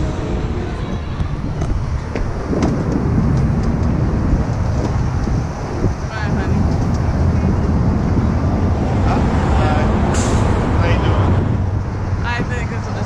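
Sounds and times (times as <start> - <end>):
street traffic: 0.0 - 13.0
wind rumbling on microphone: 0.0 - 13.0.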